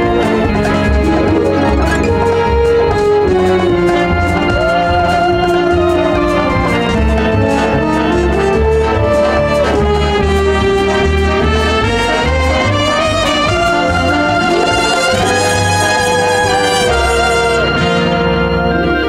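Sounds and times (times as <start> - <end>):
light steady beat: 0.0 - 18.0
climbing lead melody: 0.0 - 19.0
pulsing bass line: 0.0 - 19.0.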